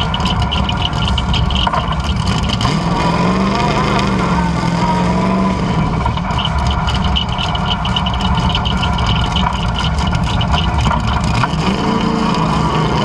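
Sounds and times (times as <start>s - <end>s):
sharp ticks and crackles: 0.0s - 4.7s, 5.3s - 13.0s
car engine running: 0.0s - 13.0s.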